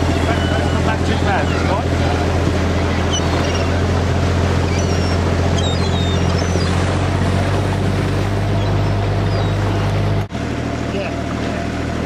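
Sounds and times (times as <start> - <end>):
boat engine droning: 0.0 - 12.0
gulls calling: 0.0 - 12.0.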